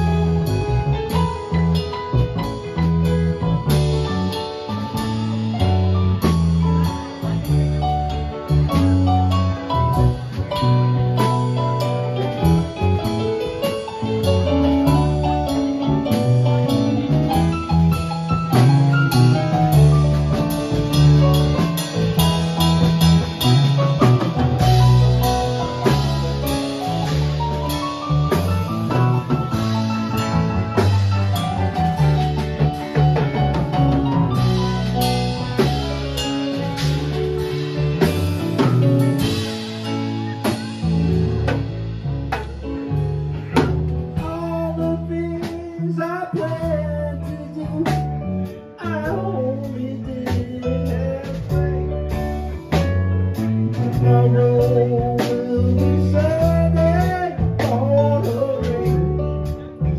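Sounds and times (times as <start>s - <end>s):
drum kit beat: 0.0s - 59.9s
electric bass: 0.0s - 59.9s
electric guitar: 0.0s - 59.9s
keyboard: 0.0s - 59.9s.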